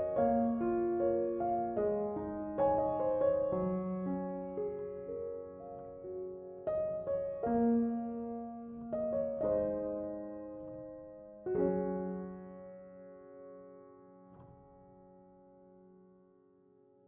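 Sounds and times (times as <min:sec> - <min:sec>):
soft slow piano chords: 0:00.0 - 0:17.0.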